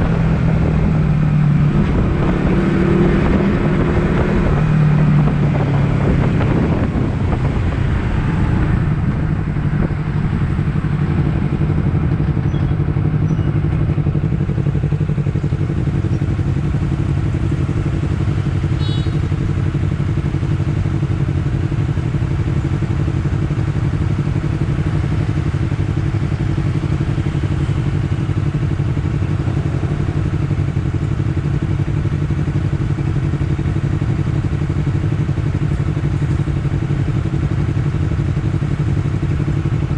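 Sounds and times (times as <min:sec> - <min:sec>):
motorcycle engine idling: 0:04.5 - 0:39.9.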